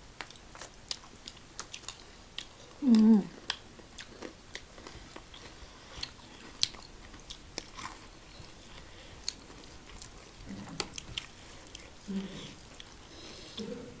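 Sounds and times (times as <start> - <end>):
chewing fried food: 0.0 - 14.0.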